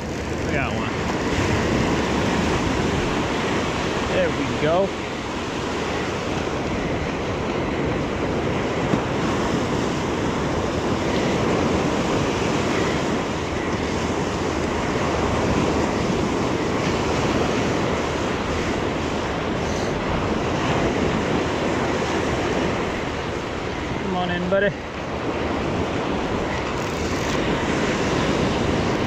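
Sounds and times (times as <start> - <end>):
wind on microphone: 0.0 - 24.1, 24.8 - 29.0
ocean surf on beach: 0.0 - 29.0.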